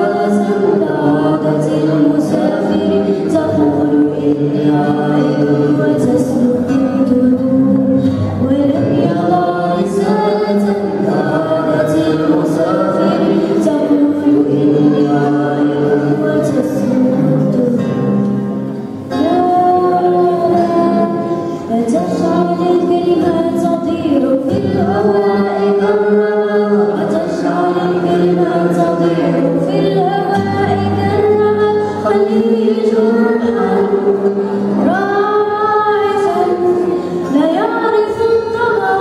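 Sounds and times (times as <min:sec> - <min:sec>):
girl singing into a microphone: 0:00.0 - 0:39.0
strummed acoustic guitar: 0:00.0 - 0:39.0.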